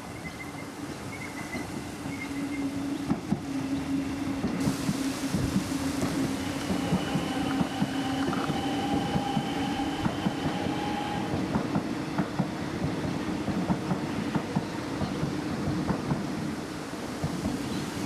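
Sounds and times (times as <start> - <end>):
train rattling along rails: 0.0 - 18.0.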